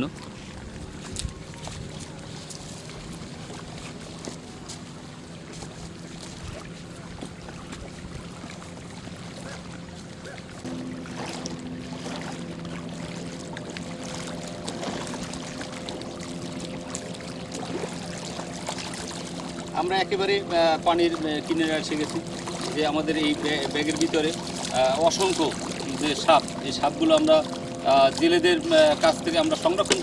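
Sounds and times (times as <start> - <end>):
low engine drone: 0.0 - 30.0
water splashing at river edge: 0.0 - 30.0.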